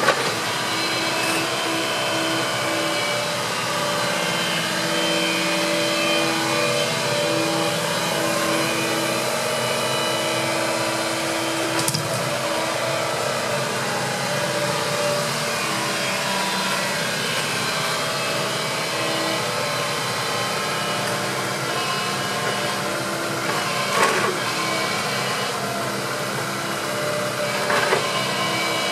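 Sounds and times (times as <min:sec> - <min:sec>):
excavator diesel engine running: 0:00.0 - 0:28.9
hydraulic pump whining: 0:00.0 - 0:28.9.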